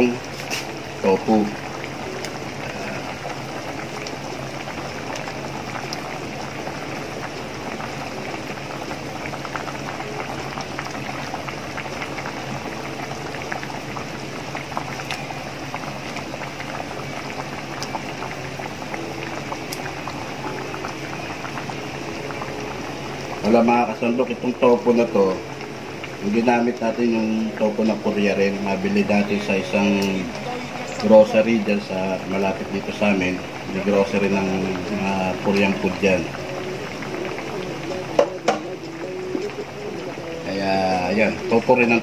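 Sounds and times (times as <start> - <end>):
stew bubbling in a pan: 0.0 - 42.0.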